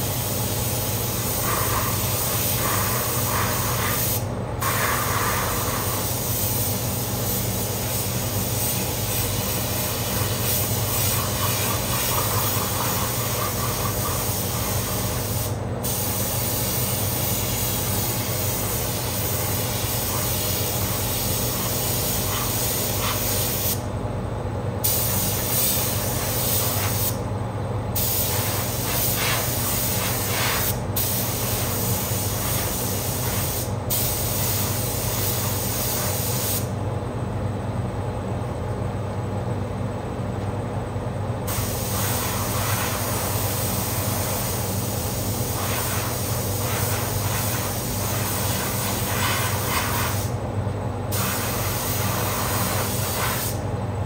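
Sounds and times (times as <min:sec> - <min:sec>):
exhaust fan droning: 0:00.0 - 0:54.0
paint spray gun hissing: 0:00.7 - 0:23.8, 0:24.8 - 0:27.2, 0:28.0 - 0:36.7, 0:41.5 - 0:50.3, 0:51.1 - 0:53.6.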